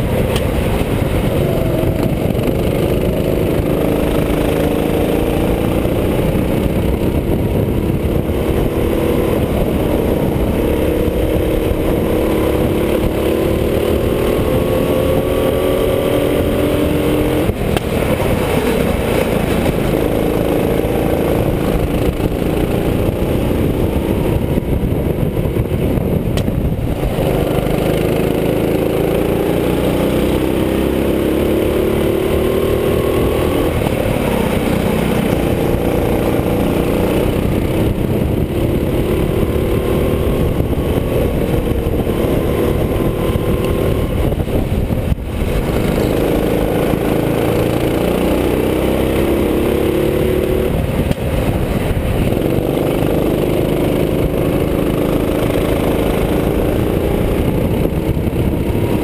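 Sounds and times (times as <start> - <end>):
go-kart engine accelerating: 0.0 - 59.0.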